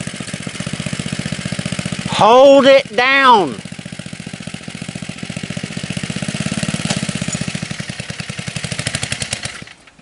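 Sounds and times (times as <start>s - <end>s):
go-cart engine running: 0.0s - 10.0s.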